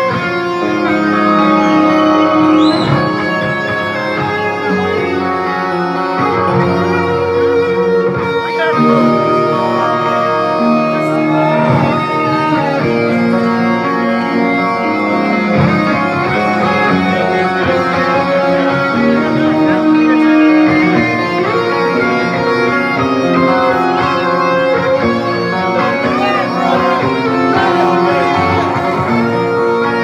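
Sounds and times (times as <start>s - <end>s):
electric guitars: 0.0s - 30.0s
hard rock band playing: 0.0s - 30.0s.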